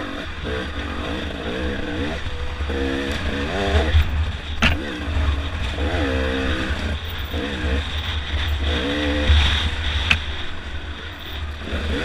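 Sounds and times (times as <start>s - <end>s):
dirt bike engine revving: 0.0s - 12.0s
wind rumble on microphone: 0.0s - 12.0s.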